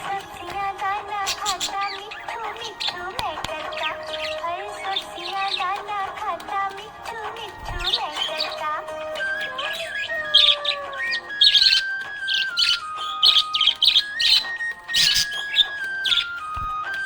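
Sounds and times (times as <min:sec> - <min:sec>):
budgies chirping and warbling: 0:00.0 - 0:17.0
slow background music: 0:00.0 - 0:17.0.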